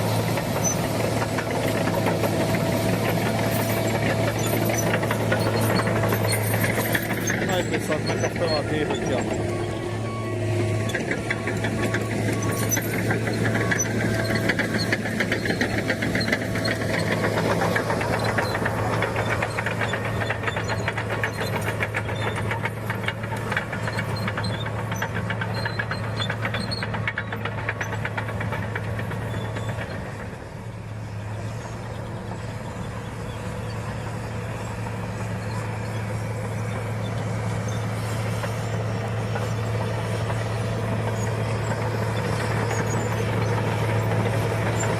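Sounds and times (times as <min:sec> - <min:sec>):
diesel engine under load: 0:00.0 - 0:44.9.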